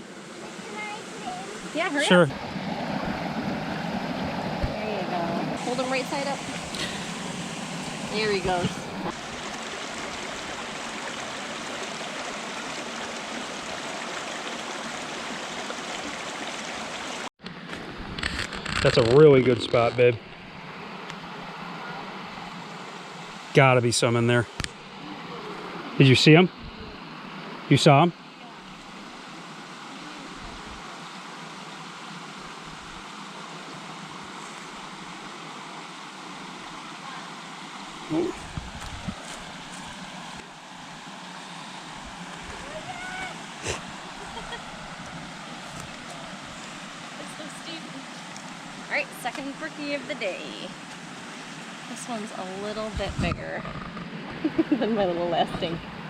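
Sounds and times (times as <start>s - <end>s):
creek water over rocks: 0.0s - 56.0s.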